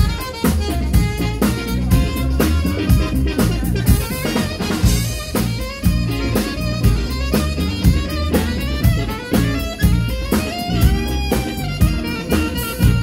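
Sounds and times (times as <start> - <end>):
alto saxophone melody: 0.0 - 13.0
drum kit beat: 0.0 - 13.0
electric bass: 0.0 - 13.0
electric guitar: 0.0 - 13.0.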